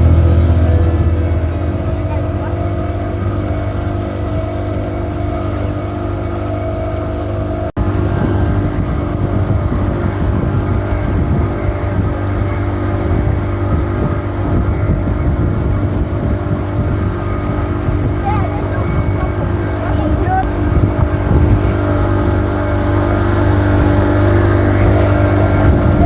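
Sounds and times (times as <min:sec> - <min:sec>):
motorboat engine droning: 0:00.0 - 0:26.0.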